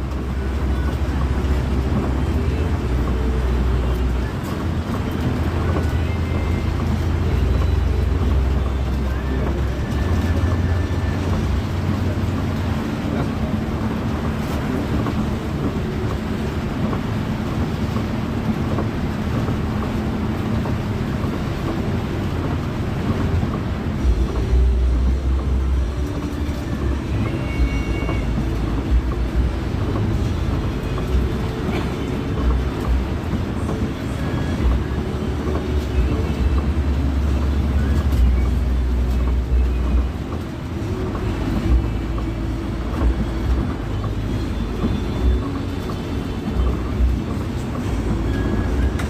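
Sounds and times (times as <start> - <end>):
bus engine drone: 0.0 - 49.0
road noise: 0.0 - 49.0.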